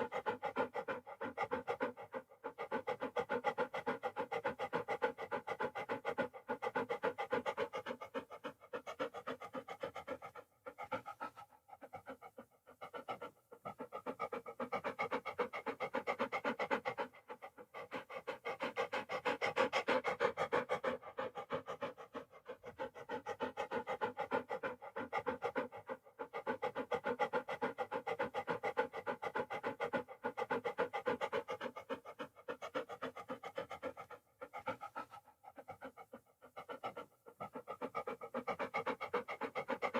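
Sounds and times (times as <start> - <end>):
dog panting: 0.0 - 39.9.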